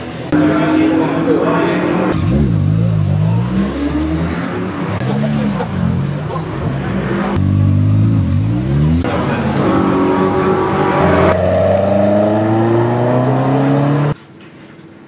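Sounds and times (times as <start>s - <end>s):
car engines revving: 0.0s - 14.2s.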